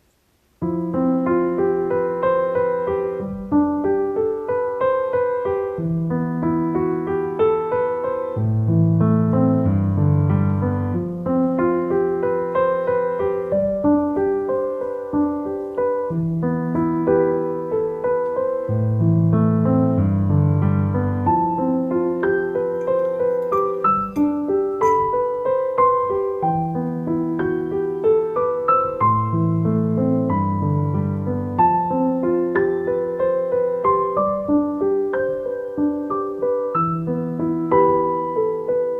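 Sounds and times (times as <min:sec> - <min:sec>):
gentle piano music: 0:00.0 - 0:38.9.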